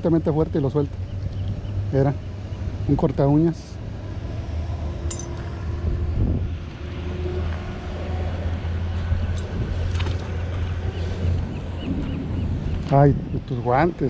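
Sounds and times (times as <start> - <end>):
low rumble of city traffic: 0.0 - 14.0.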